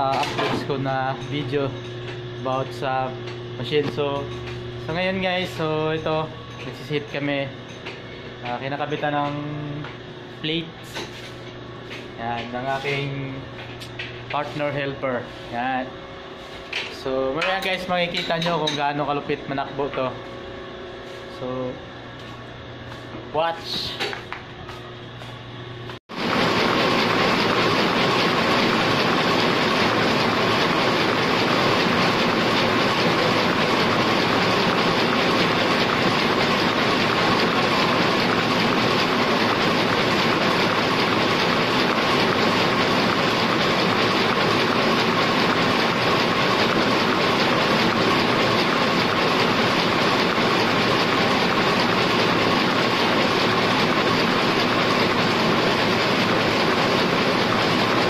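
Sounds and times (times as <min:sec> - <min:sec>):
printing press running: 0:00.0 - 0:25.3, 0:25.9 - 0:58.0
constant mechanical whine: 0:00.0 - 0:58.0.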